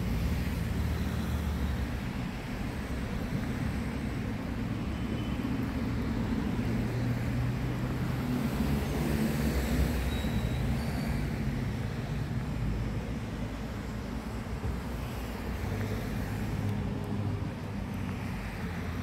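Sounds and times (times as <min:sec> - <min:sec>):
city road traffic hum: 0:00.0 - 0:19.0.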